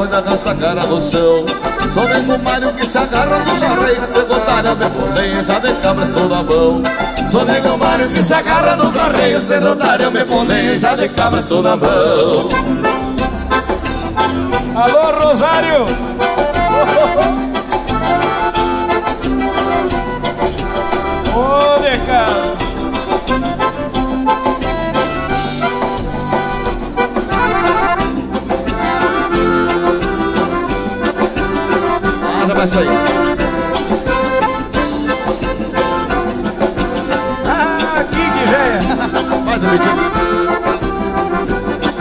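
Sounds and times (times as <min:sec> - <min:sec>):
accordions playing melody: 0:00.0 - 0:42.0
bass: 0:00.0 - 0:42.0
drum kit beat: 0:00.0 - 0:42.0
electric guitar: 0:00.0 - 0:42.0.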